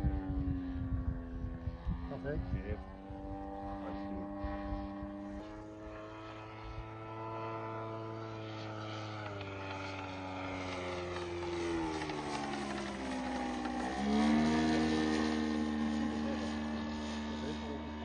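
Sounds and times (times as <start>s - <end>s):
model plane engine running: 0.0s - 18.0s.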